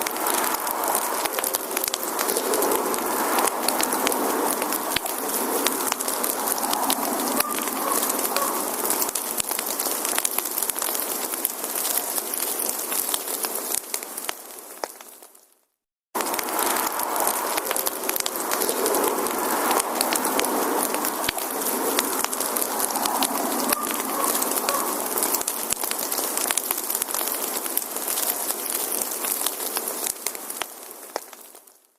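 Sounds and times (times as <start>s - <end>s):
campfire crackling: 0.0s - 15.6s, 16.2s - 31.9s.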